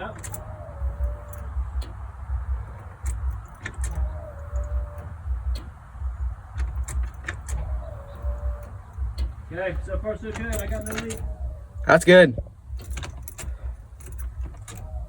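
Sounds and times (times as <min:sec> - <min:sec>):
fuel pump whining: 0:00.0 - 0:15.0
keys clicking and jingling: 0:00.1 - 0:05.7, 0:06.5 - 0:09.5, 0:10.2 - 0:15.0.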